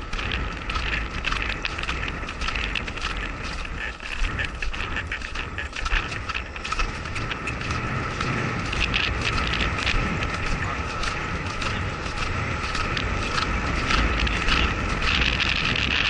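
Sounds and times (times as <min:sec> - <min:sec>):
hoofbeats and tack clicking: 0:00.0 - 0:16.0
low steady rumble: 0:00.0 - 0:16.0
wind buffeting microphone: 0:00.0 - 0:16.0.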